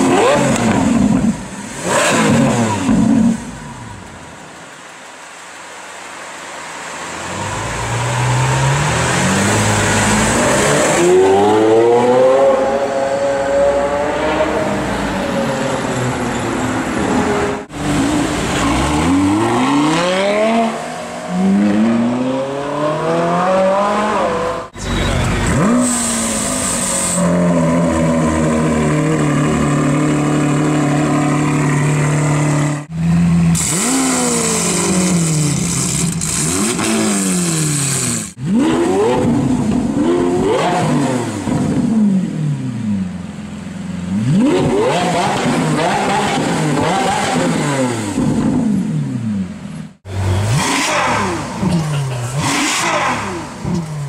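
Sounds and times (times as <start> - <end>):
supercar engines revving: 0.0 - 4.0, 7.1 - 54.0.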